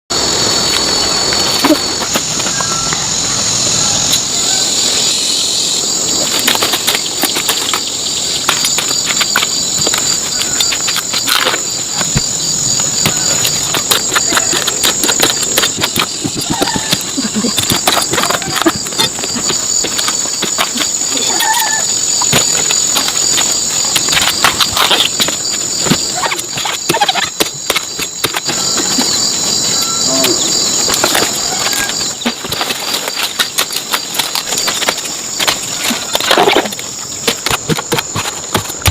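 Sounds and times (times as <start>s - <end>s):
high-pitched insect chorus: 0.1s - 38.9s
irregular crackles and knocks: 6.0s - 38.9s.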